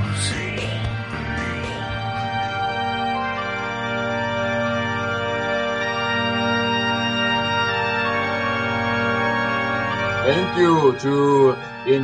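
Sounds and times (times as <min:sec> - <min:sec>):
music of held chords: 0:00.0 - 0:12.0.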